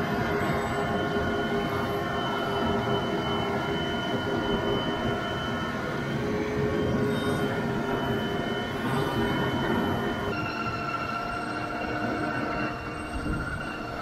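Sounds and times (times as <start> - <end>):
steady whine: 0.0 - 14.0.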